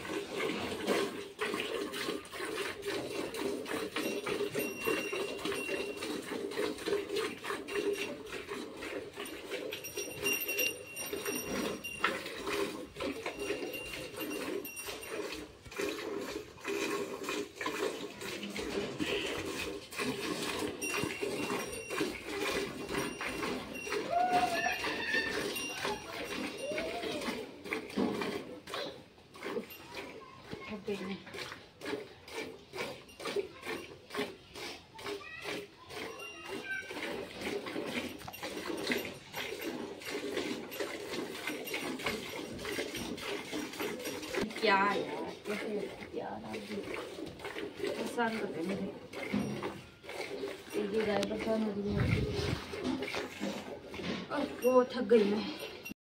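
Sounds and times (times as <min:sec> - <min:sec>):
milk squirting into steel bucket: 0:00.0 - 0:56.0.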